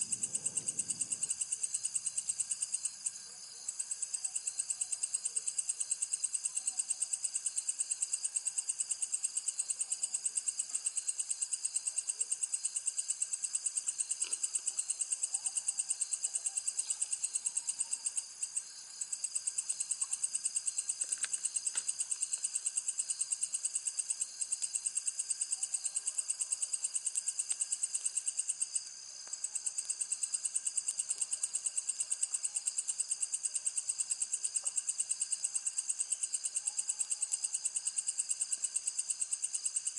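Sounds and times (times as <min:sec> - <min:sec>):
insects trilling: 0:00.0 - 0:09.8, 0:10.4 - 0:39.9.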